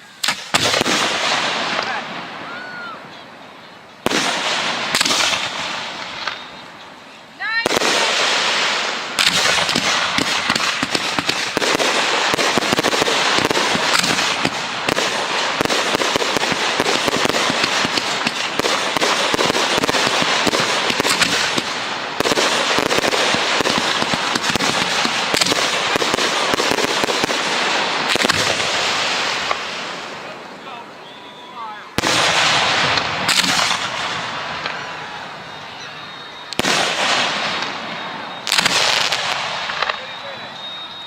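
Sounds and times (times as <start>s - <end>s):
fireworks bangs and pops: 0.0s - 2.3s, 4.0s - 6.7s, 7.6s - 30.4s, 32.0s - 35.0s, 36.5s - 41.0s.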